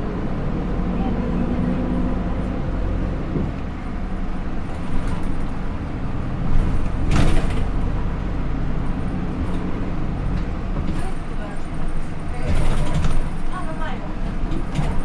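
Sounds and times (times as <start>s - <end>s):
diesel bus engine running: 0.0s - 15.0s.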